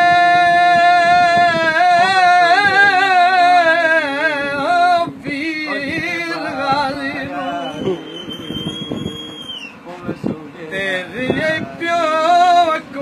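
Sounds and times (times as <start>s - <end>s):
man singing without words: 0.0s - 8.2s, 10.7s - 13.0s.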